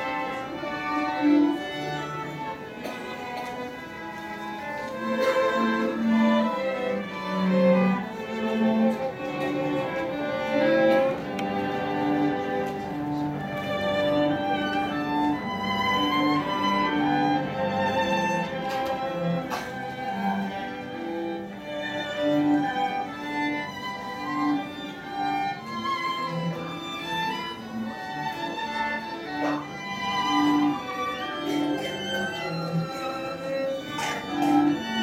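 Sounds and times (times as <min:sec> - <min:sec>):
string quartet playing: 0:00.0 - 0:35.0.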